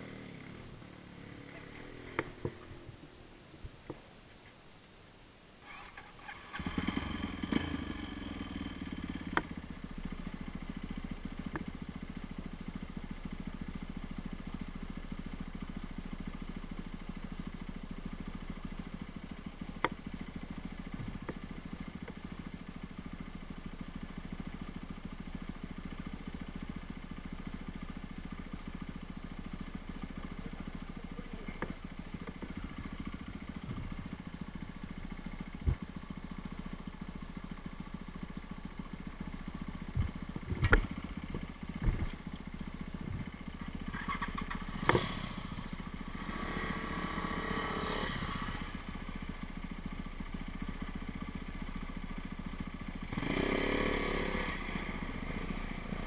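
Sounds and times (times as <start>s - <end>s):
motorcycle engine running: 0.0s - 4.0s, 5.6s - 56.0s.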